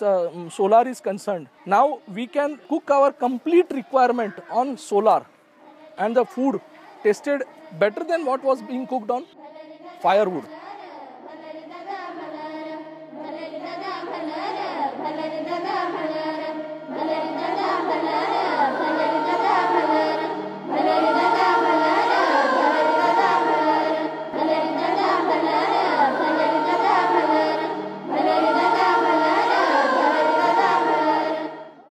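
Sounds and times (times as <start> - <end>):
woman and children singing: 0.2 - 31.9.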